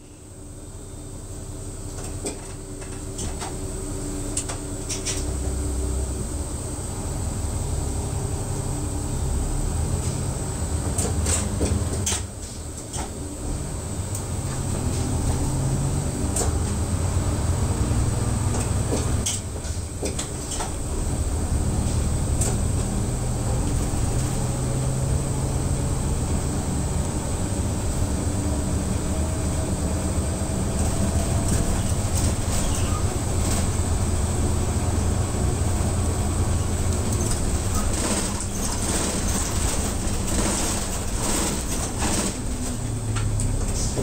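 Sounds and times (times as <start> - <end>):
bus diesel engine idling: 0.0 - 44.0
road noise: 0.0 - 44.0.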